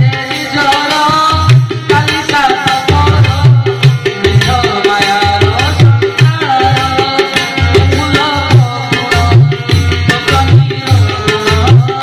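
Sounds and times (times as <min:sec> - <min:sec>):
tabla playing a steady rhythm: 0:00.0 - 0:12.0.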